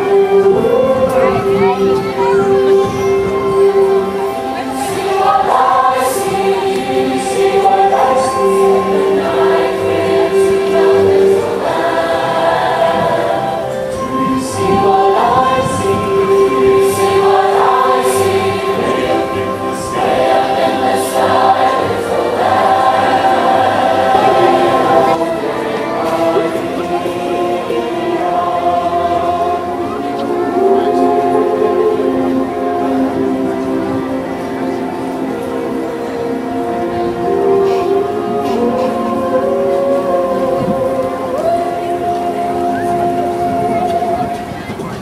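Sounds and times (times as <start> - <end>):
large choir singing held notes: 0.0 - 45.0.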